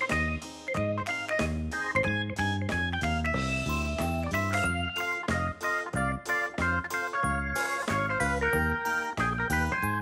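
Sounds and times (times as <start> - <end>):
bright instrumental music with bass: 0.0 - 10.0.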